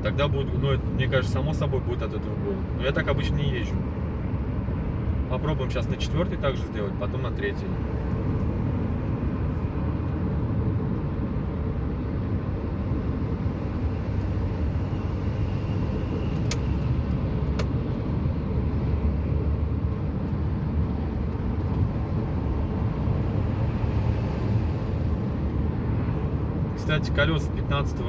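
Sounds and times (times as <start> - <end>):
car interior driving drone: 0.0 - 28.0.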